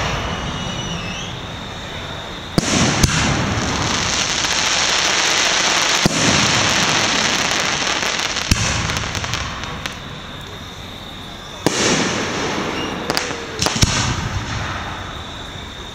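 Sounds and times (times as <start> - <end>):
fireworks crackling hiss: 0.0 - 15.9.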